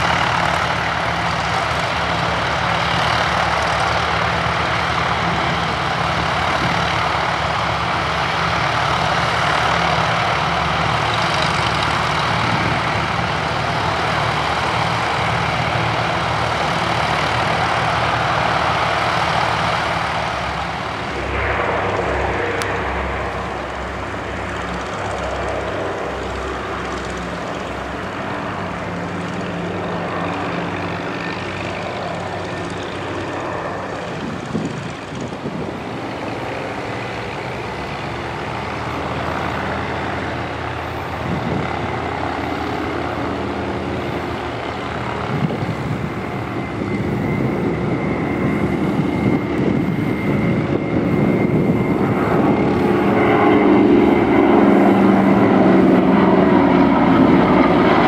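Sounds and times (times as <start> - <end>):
propeller plane engines roaring: 0.0 - 58.0.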